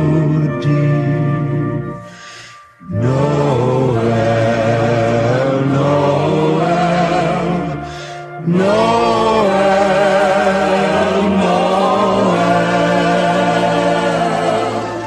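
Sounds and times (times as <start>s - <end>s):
choir singing a carol: 0.0s - 2.0s, 2.8s - 15.0s.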